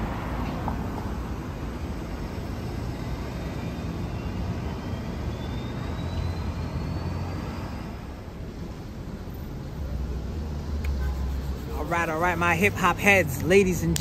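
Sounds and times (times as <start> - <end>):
low rumble of passing vehicles: 0.0 - 14.0.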